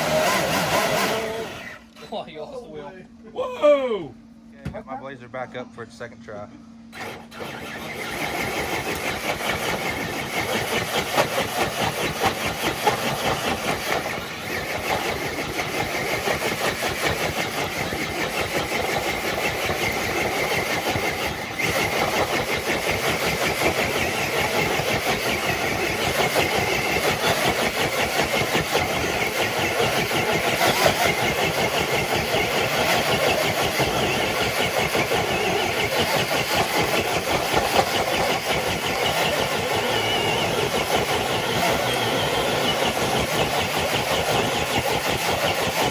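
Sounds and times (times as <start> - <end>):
electric motor and gears running: 0.0 - 3.0, 6.0 - 45.9.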